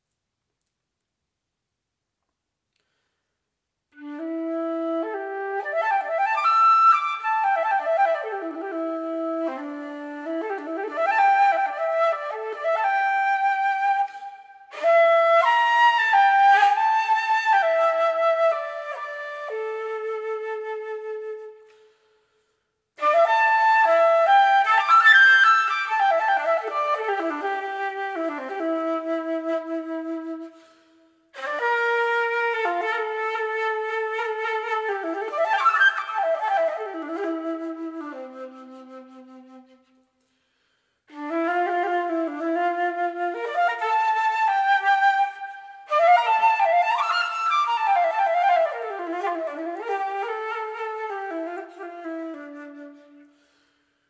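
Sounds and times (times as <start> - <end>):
solo flute melody: 3.9 - 54.0.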